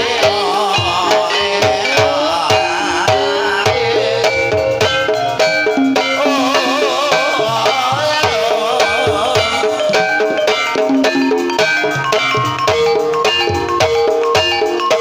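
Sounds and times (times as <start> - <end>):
hand drums beating: 0.0 - 15.0
ringing metallophone notes: 0.0 - 15.0
wavering melody line: 0.0 - 15.0.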